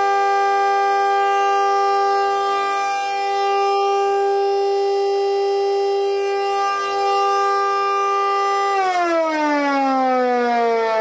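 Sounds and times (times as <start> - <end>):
air raid siren steady tone: 0.0 - 11.0.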